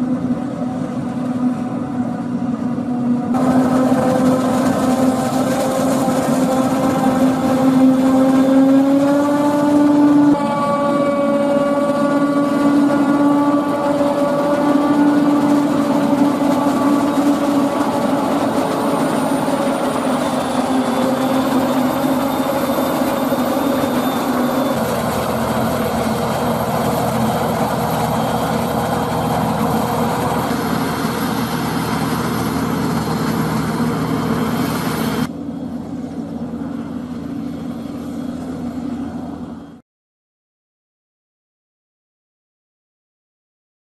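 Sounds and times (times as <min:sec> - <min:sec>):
harvester engine drone with whine: 0:00.0 - 0:39.8
tractor running: 0:00.0 - 0:39.8.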